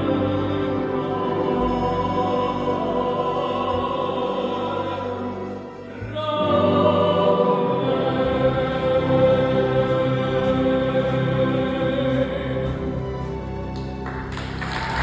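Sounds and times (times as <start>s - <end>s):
boys' choir singing: 0.0s - 13.5s.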